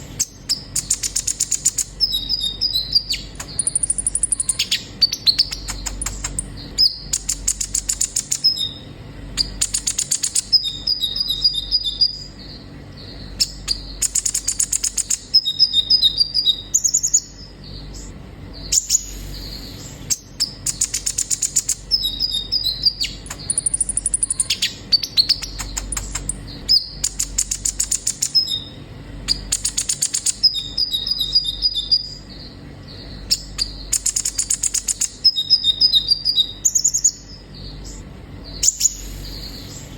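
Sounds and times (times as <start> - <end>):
bird chattering trills: 0.0 - 39.9
thin whistled bird notes: 0.1 - 8.8, 9.4 - 39.9.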